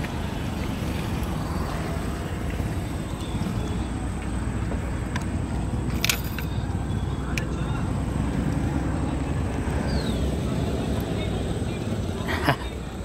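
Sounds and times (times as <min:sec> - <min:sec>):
motorcycle engine rumble: 0:00.0 - 0:13.0
road noise: 0:00.0 - 0:13.0.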